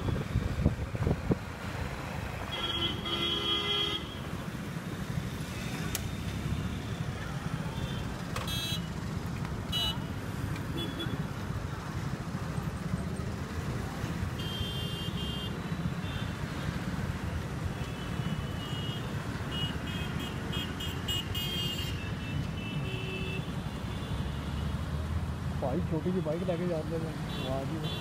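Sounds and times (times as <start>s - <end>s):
vehicle rumble in traffic: 0.0s - 28.0s.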